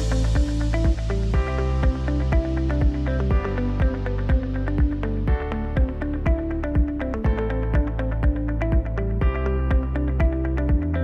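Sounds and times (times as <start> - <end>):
kick drum beat: 0.0 - 11.0.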